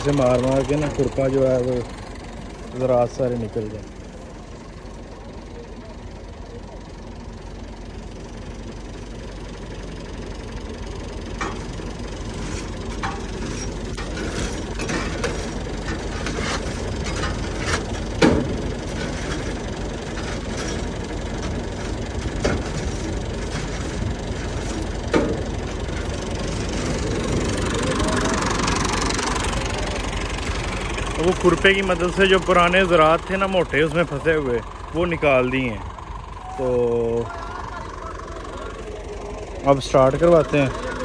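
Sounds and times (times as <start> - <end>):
low engine hum: 0.0 - 41.0.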